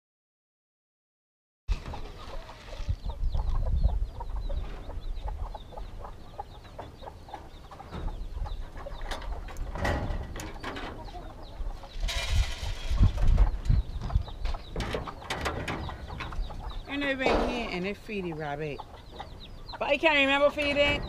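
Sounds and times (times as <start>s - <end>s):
chickens clucking: 1.7s - 21.0s.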